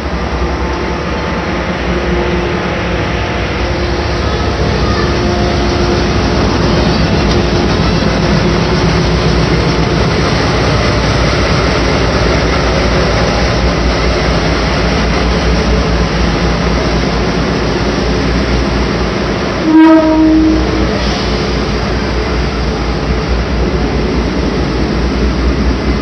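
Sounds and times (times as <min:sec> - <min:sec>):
train equipment hum and hiss: 0:00.0 - 0:26.0.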